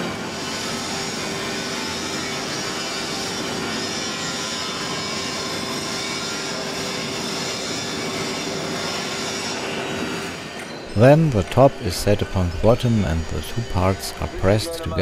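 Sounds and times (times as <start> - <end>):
constant machinery hum: 0.0 - 15.0.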